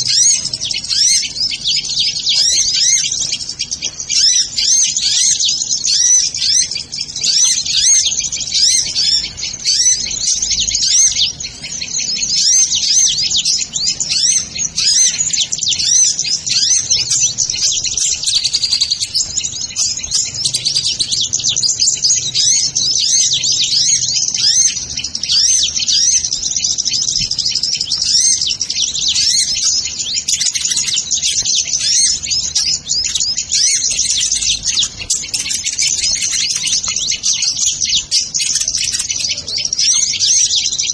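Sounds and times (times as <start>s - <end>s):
sunbirds chirping and twittering: 0.0s - 40.9s.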